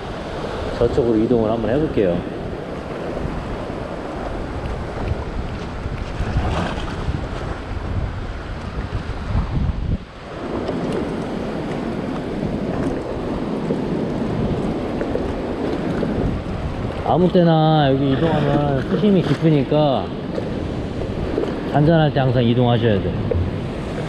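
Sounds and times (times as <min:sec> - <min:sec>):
ocean surf breaking over rocks: 0:00.0 - 0:24.0
wind buffeting microphone: 0:00.0 - 0:24.0.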